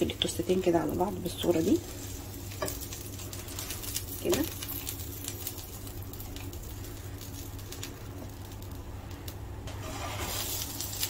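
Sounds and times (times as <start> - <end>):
light crackles: 0.0 - 11.0
sandwich sizzling in frying pan: 0.0 - 11.0
steady low hum: 0.0 - 11.0.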